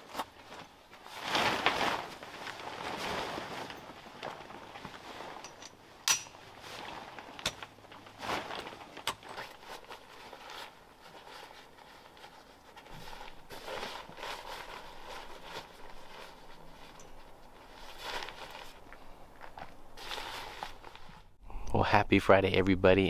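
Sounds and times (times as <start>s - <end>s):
canvas fabric rustling: 0.0s - 21.4s.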